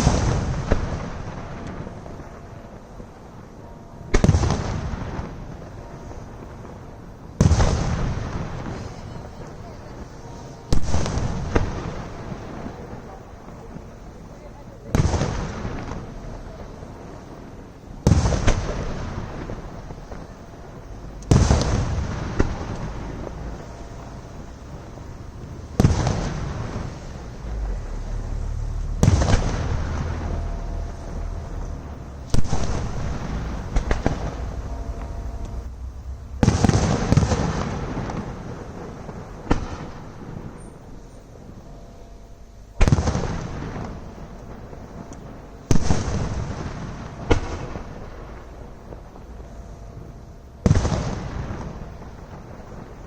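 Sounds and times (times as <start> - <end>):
fireworks booming: 0.0 - 53.0.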